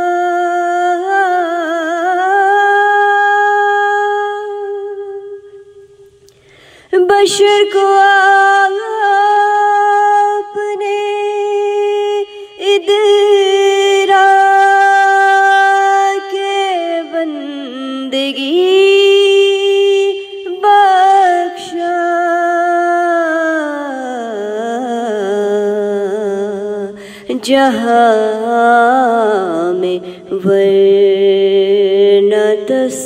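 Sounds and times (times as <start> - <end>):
woman singing: 0.0 - 5.8, 6.9 - 33.0.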